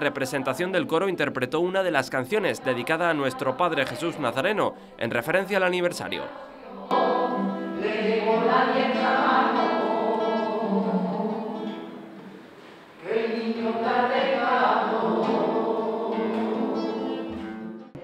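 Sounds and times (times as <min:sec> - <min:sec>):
choir singing: 0:02.0 - 0:17.6.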